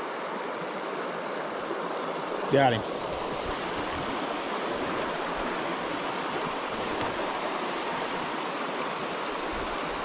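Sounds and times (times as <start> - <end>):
creek water over rocks: 0.0 - 10.0.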